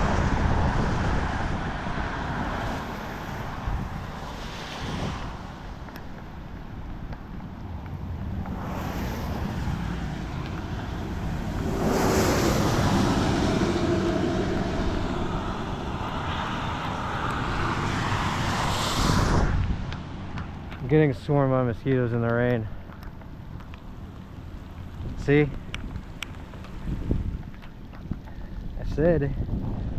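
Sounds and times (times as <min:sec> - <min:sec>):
rain and wind on microphone: 0:00.0 - 0:29.9.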